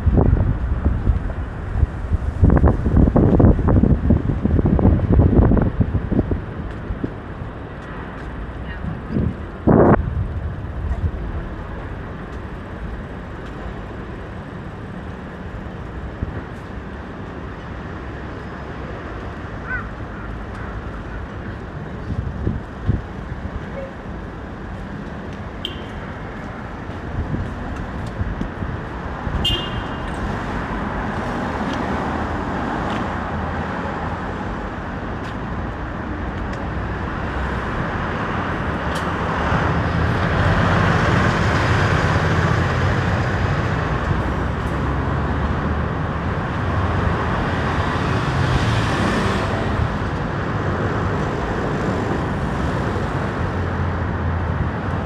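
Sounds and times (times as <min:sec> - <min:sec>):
bus passing close by: 0:00.0 - 0:55.0
city road traffic: 0:00.0 - 0:55.0.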